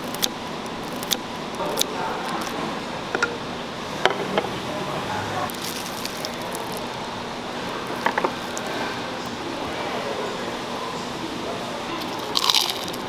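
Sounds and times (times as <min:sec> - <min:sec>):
background chatter: 0:01.4 - 0:13.0.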